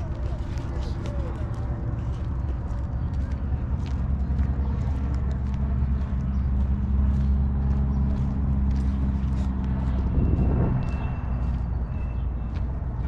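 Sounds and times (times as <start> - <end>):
footsteps on a path: 0.0 - 13.0
low engine hum: 0.0 - 13.0
wind rumble on microphone: 0.0 - 13.0.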